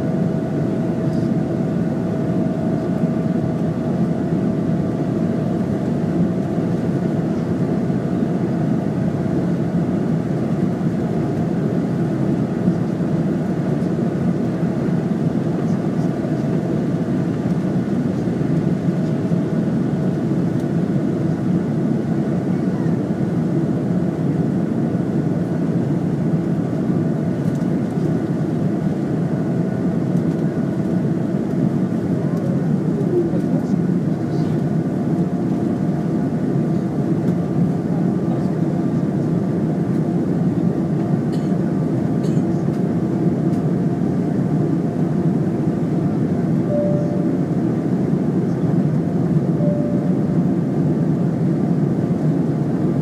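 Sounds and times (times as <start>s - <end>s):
jet engines droning: 0.0s - 53.0s.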